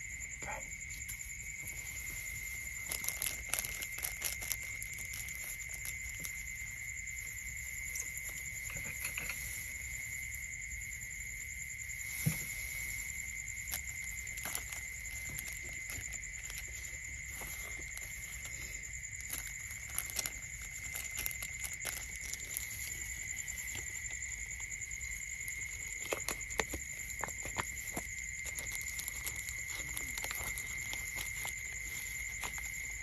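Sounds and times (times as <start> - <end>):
straw rustling and crackling: 1.0 - 10.0, 11.9 - 33.0.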